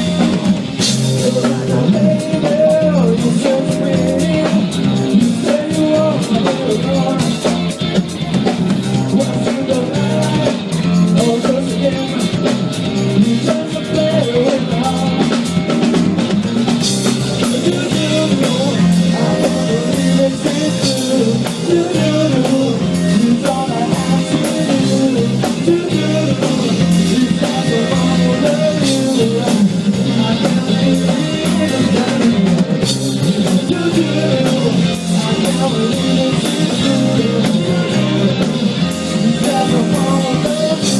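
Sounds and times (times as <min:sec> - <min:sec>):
drum kit beat: 0:00.0 - 0:40.9
guitar: 0:00.0 - 0:40.9.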